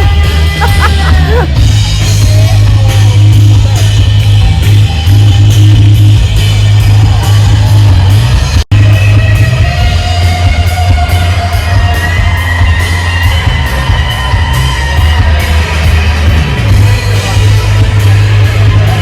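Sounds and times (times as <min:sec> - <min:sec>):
loud rock music with singing: 0:00.0 - 0:19.0.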